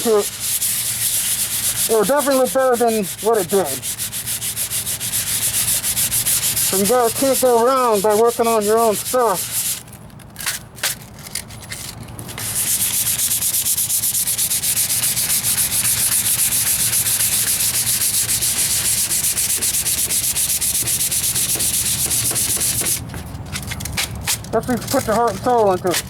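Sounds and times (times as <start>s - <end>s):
sandpaper rubbing by hand: 0.0s - 9.9s, 12.4s - 23.2s, 24.6s - 26.0s.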